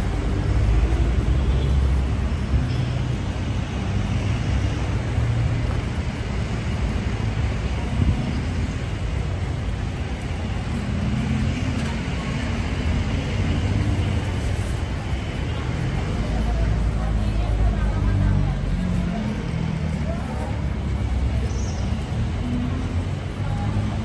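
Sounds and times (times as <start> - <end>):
road noise: 0.0 - 24.0
vehicle engines rumbling: 0.0 - 24.0.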